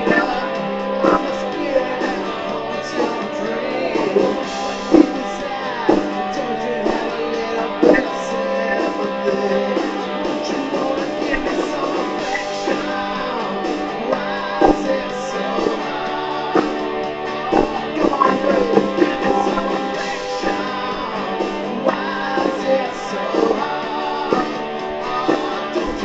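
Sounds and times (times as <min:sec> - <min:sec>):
rock music with guitars: 0:00.0 - 0:26.0.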